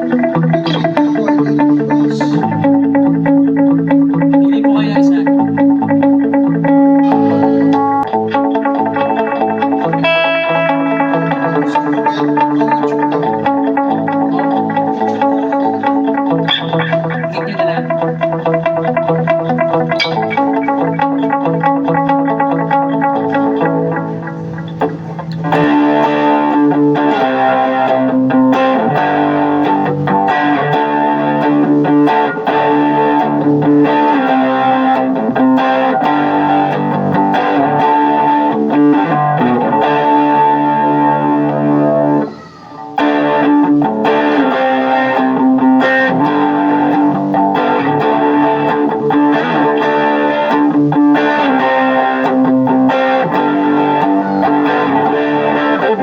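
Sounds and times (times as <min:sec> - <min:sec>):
electric guitar chords: 0:00.0 - 0:56.0.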